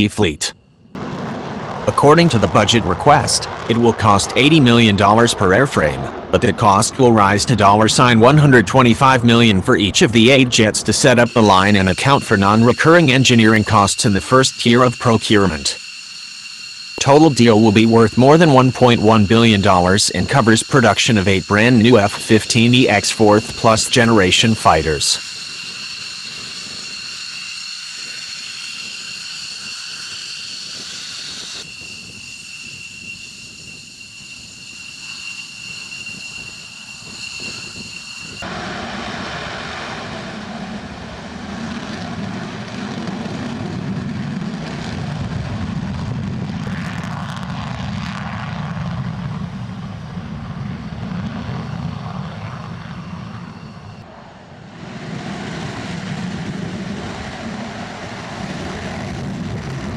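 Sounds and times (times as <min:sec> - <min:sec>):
jet engines whining at idle: 0:00.0 - 0:59.9
jet takeoff roar: 0:00.0 - 0:59.9.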